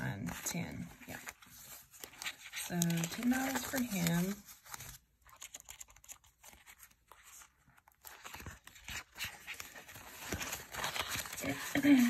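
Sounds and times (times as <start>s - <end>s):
paper bills rustling: 0.0s - 12.0s.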